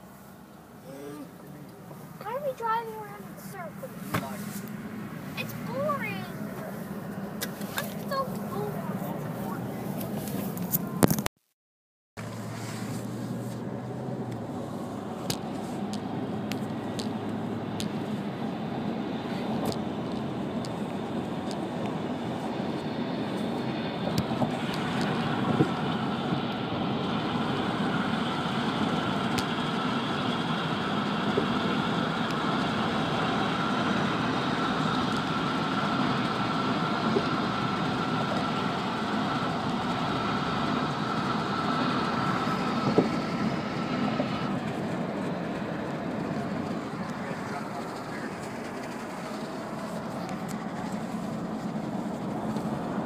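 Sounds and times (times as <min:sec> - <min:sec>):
car road and engine noise: 0:00.0 - 0:11.3, 0:12.2 - 0:53.0.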